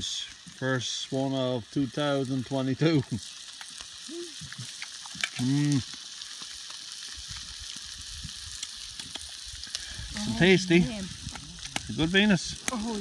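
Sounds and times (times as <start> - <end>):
frying pan sizzling: 0.0 - 13.0.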